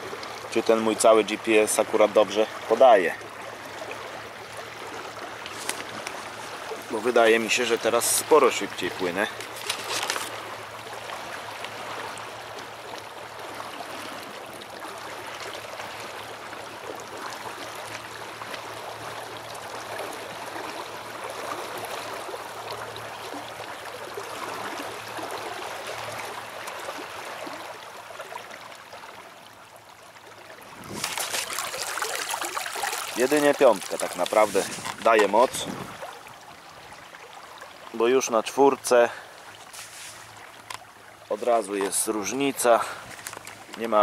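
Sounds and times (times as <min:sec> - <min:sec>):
water splashing along a boat hull: 0:00.0 - 0:44.0.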